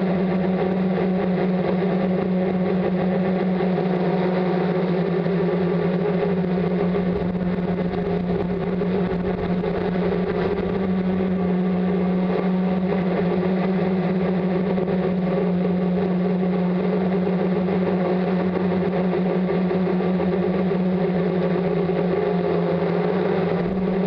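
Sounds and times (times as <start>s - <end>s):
drone motors humming: 0.0s - 24.0s.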